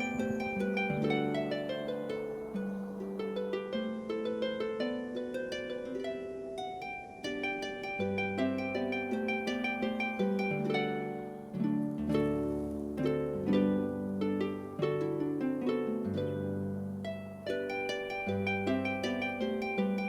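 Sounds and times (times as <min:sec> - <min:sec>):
calm harp music: 0:00.0 - 0:20.0.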